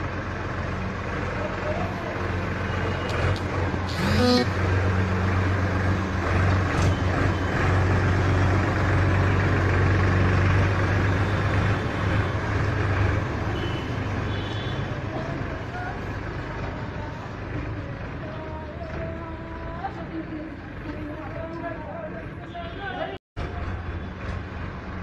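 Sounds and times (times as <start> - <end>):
diesel tractor engine humming: 0.0 - 22.6.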